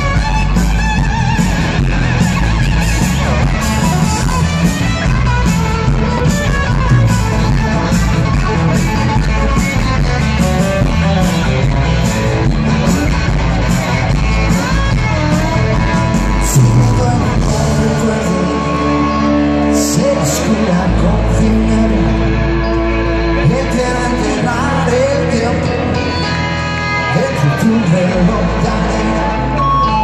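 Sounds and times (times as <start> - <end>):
bass: 0.0 - 30.0
drums: 0.0 - 30.0
electric guitar lead: 0.0 - 30.0.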